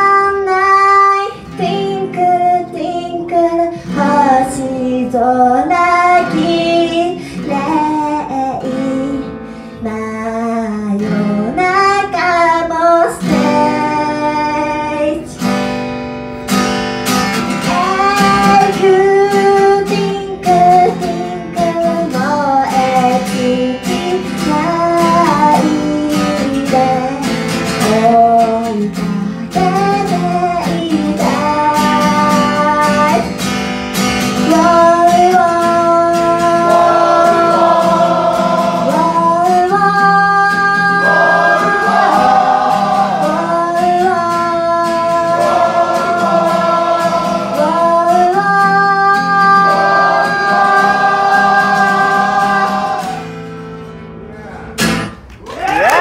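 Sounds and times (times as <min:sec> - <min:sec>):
woman singing into a microphone: 0:00.0 - 0:15.4, 0:17.6 - 0:33.3, 0:34.4 - 0:53.0
acoustic guitar strumming: 0:00.0 - 0:55.3.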